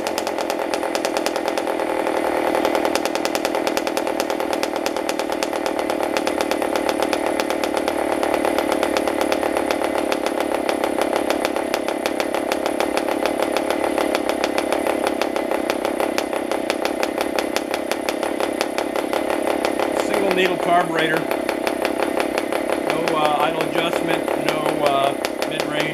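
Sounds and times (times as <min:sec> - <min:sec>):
model aircraft engine running: 0:00.0 - 0:25.9.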